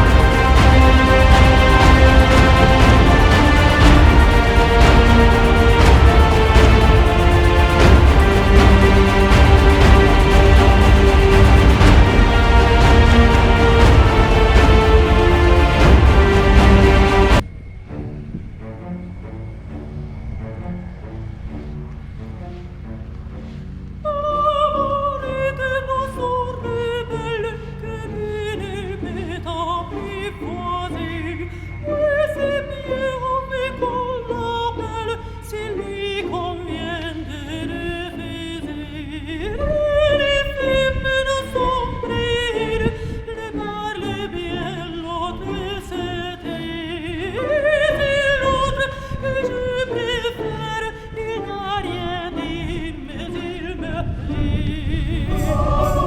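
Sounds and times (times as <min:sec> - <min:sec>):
operatic singing voice: 0:00.0 - 0:17.4, 0:24.1 - 0:56.0
background music: 0:00.0 - 0:56.0.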